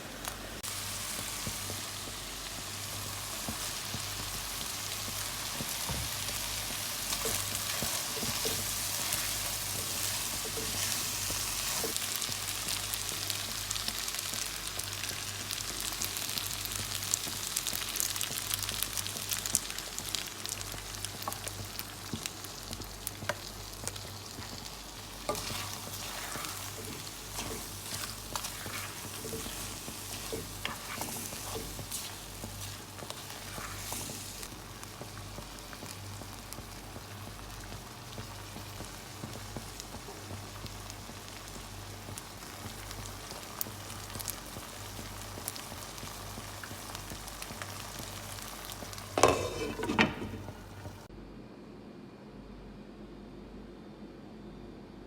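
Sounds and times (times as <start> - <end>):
food sizzling in a frying pan: 0.0 - 51.1.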